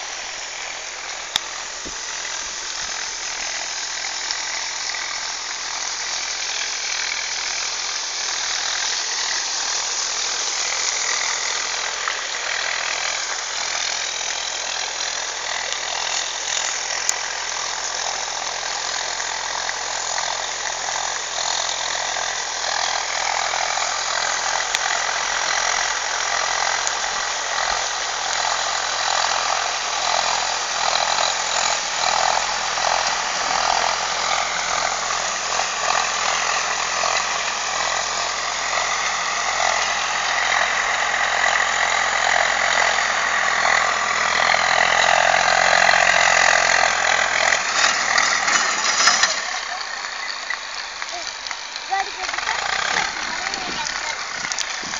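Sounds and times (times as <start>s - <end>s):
winch engine running: 0.0s - 54.9s.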